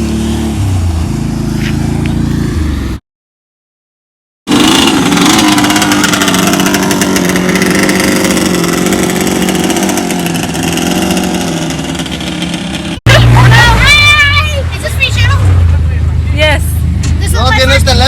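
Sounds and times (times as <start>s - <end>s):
vehicle engine running: 0.0s - 3.0s, 4.5s - 18.0s.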